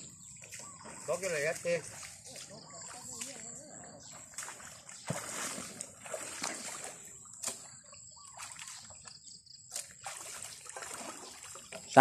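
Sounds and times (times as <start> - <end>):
splashing steps in shallow water: 0.0 - 12.0.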